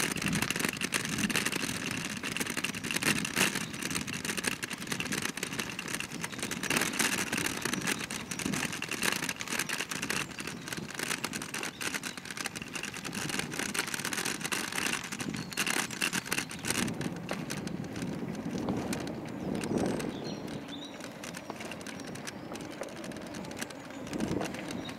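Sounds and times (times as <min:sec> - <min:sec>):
scooter wheels rolling on dirt: 0:00.0 - 0:24.9.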